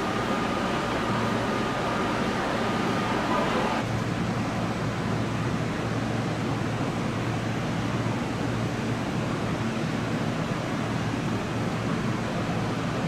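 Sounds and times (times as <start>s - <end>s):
electric train idling hum and hiss: 0.0s - 13.0s.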